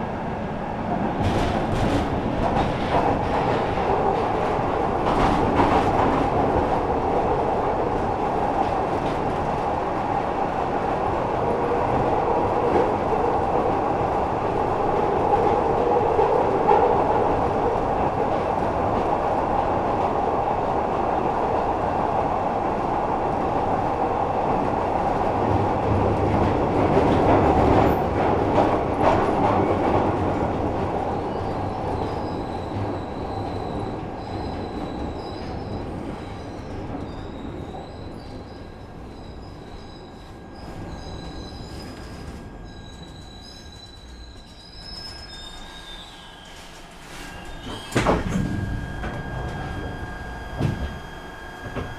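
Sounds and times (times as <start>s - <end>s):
train wheels rumbling on track: 0.0s - 51.9s.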